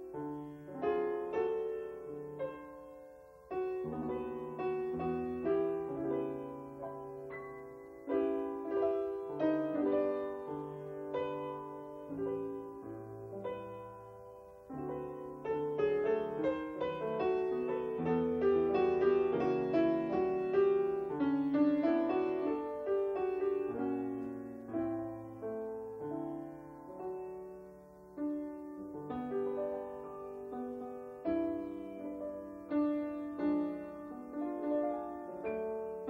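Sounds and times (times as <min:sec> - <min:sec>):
solo piano: 0:00.0 - 0:36.0.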